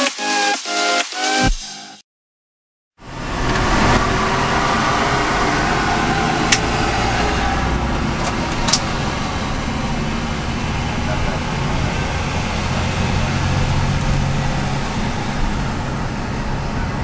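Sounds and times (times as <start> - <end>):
bus engine running: 3.0 - 17.0.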